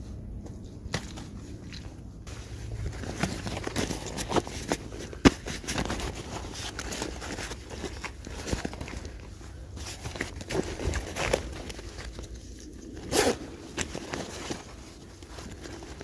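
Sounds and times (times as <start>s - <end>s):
webbing rustling and buckles clicking: 0.5s - 16.0s.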